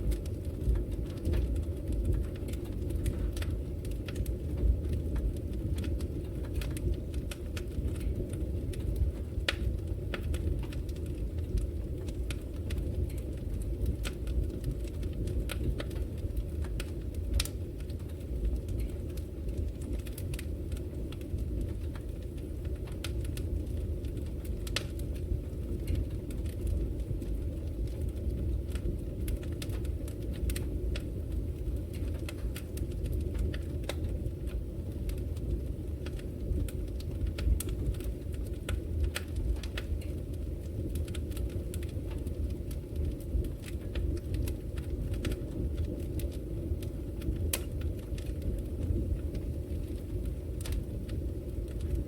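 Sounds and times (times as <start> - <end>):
wood logs burning with crackles: 0.0 - 52.0.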